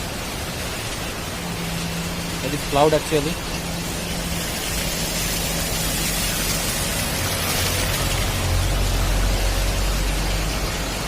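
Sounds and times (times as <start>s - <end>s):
heavy rain: 0.0s - 11.0s
low steady hum: 0.0s - 11.0s
river flowing: 0.0s - 11.0s.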